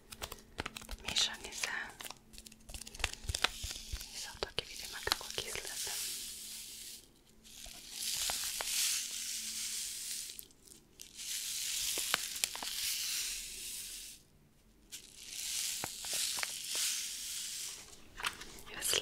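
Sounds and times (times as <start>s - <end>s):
packet crinkling: 0.0s - 13.6s, 14.9s - 19.0s.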